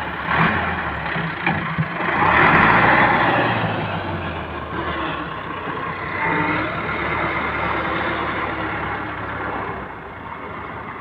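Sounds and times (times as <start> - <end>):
tractor diesel engine labouring: 0.0 - 11.0.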